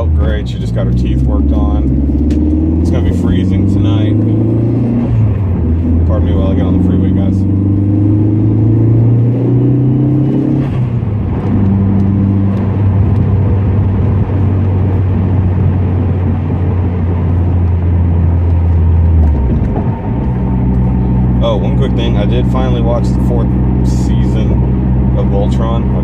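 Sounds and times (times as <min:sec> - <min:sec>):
car engine accelerating: 0:00.0 - 0:26.0
road noise: 0:00.0 - 0:26.0.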